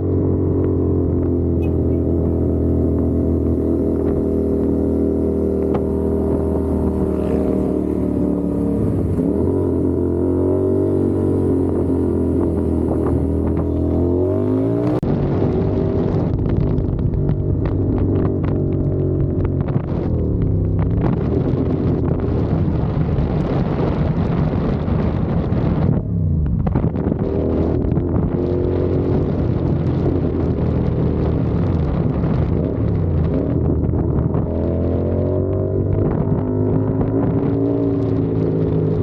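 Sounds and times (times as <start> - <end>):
motorcycle engine revving: 0.0 - 39.0
wind noise on microphone: 0.0 - 39.0.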